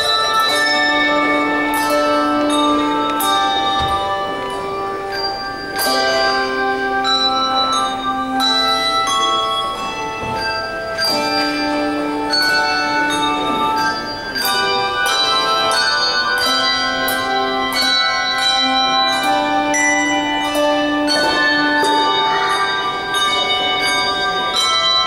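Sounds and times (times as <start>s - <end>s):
handbell choir playing chords: 0.0s - 25.0s.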